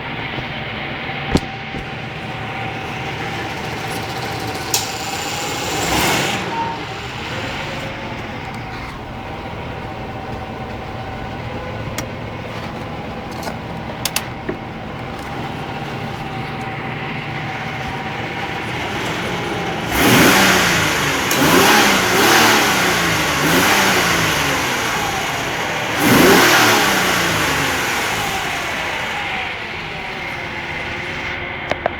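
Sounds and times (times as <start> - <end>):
car engine idling: 0.0 - 31.9
engine revving: 0.0 - 31.9.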